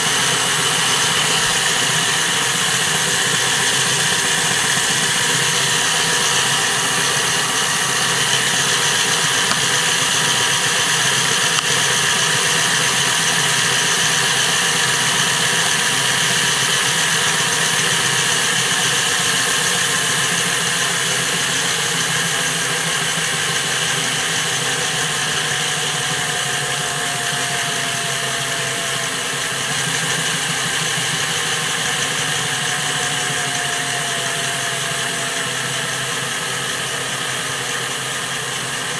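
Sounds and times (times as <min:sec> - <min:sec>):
model train motor and gears whirring: 0:00.0 - 0:38.9.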